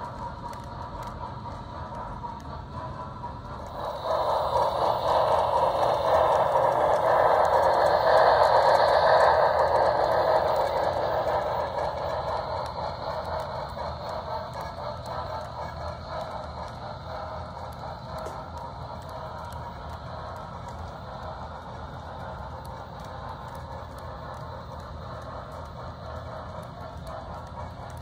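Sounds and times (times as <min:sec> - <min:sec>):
model train wheels clattering: 0:00.0 - 0:28.0.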